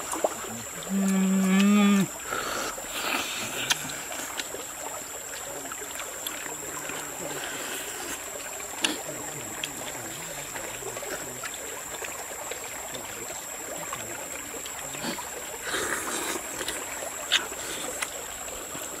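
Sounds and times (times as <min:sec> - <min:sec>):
flowing water: 0:00.0 - 0:19.0.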